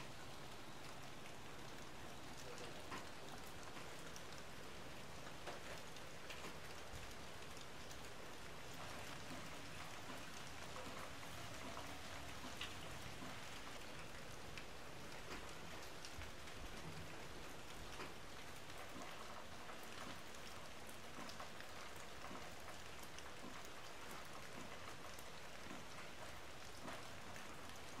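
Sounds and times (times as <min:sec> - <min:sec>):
raindrops ticking: 0:00.0 - 0:28.0
steady rain falling: 0:00.0 - 0:28.0.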